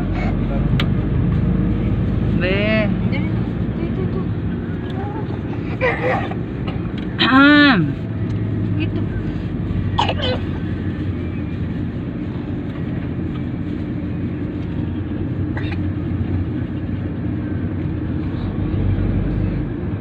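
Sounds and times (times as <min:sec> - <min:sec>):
vehicle engine and tyre rumble: 0:00.0 - 0:20.0.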